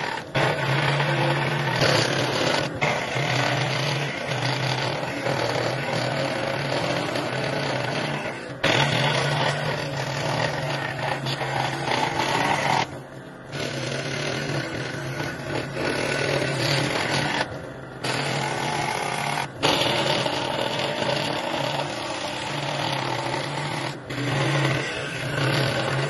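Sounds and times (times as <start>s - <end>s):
power tool motor humming: 0.0s - 26.0s.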